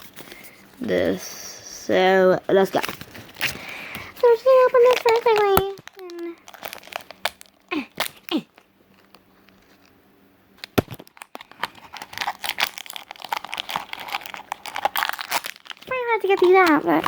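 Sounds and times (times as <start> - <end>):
plastic packaging crinkling: 2.6 - 9.9, 10.6 - 17.0.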